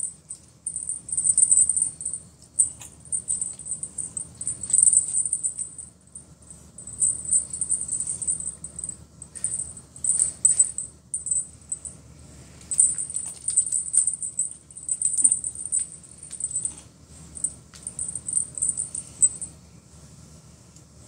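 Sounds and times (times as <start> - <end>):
cat toy jingling: 0.0 - 6.0, 6.8 - 11.9, 12.7 - 16.8, 17.4 - 19.5.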